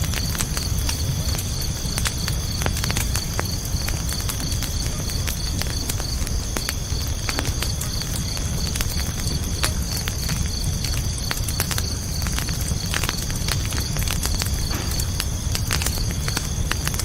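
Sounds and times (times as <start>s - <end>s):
campfire crackling and popping: 0.0s - 17.0s
crickets chirping: 0.0s - 17.0s
low rumble of burning logs: 0.0s - 17.0s.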